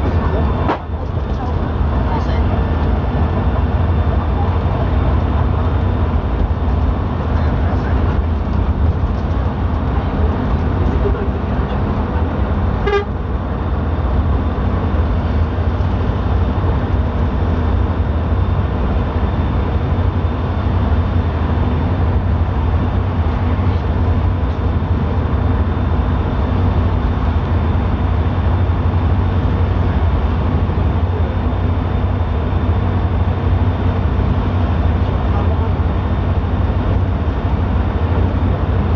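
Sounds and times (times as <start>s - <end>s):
vehicle cabin road drone: 0.0s - 38.9s.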